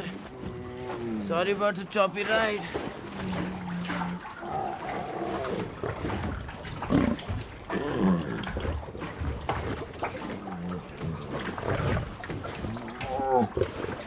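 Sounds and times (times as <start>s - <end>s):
tiger growling: 0.0s - 14.0s
water sloshing: 0.0s - 14.0s.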